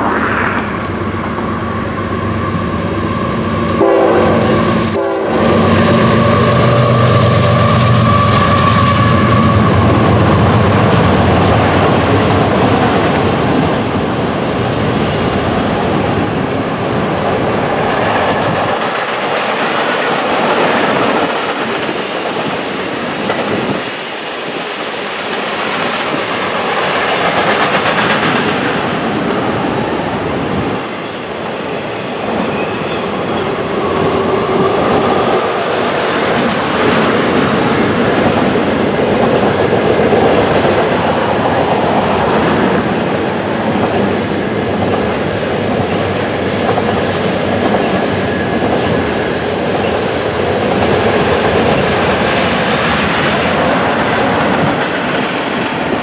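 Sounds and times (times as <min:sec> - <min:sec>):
train wheels clattering on rail: 0:03.6 - 0:56.0.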